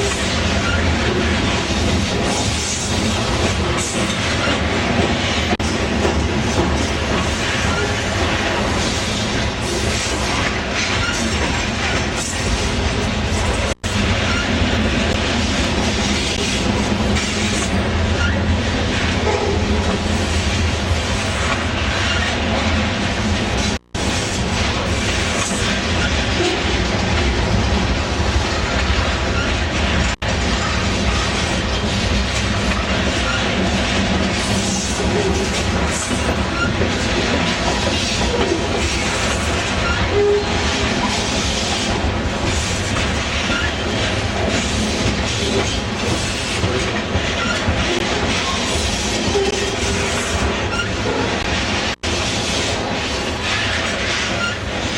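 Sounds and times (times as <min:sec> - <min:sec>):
steel train wheels on rails: 0:00.0 - 0:54.9.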